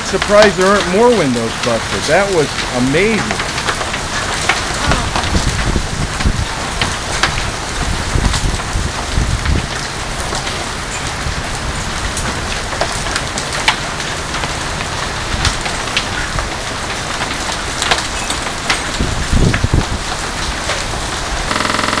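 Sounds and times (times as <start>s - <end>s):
rain and hail falling: 0.0s - 21.5s.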